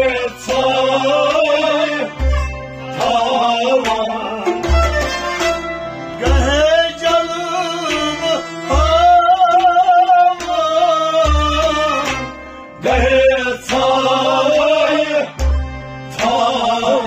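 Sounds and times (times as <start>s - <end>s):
harmonium: 0.0s - 17.0s.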